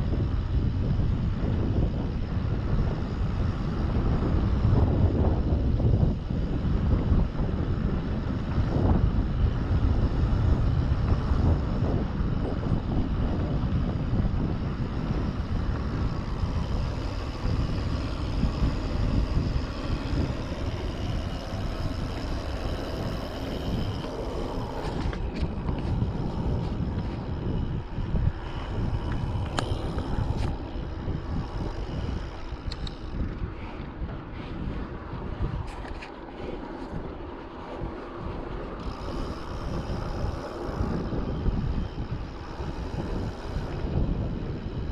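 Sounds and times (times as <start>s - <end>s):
bike tyre rumble on tarmac: 0.0s - 44.9s
wind buffeting microphone: 0.0s - 44.9s.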